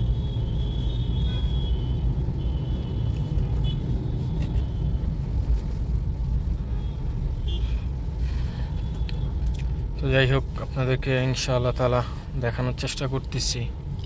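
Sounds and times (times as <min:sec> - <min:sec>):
road and tyre rumble: 0:00.0 - 0:14.0.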